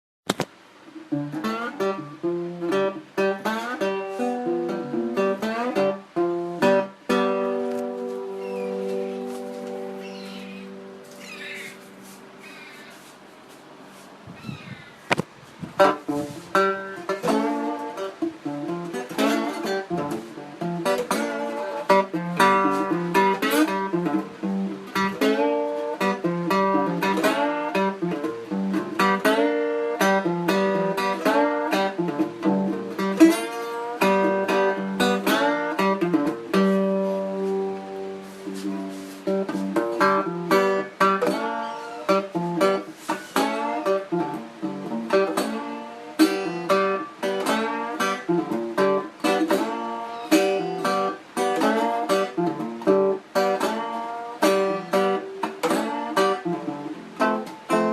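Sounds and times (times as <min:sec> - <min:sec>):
guitar plucking and strumming: 0:00.3 - 0:57.9.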